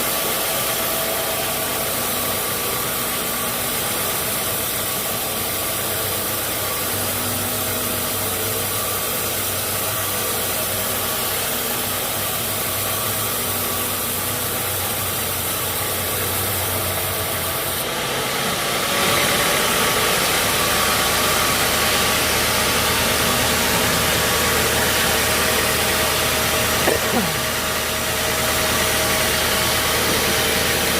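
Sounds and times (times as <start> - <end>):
sawmill machinery drone: 0.0 - 30.9.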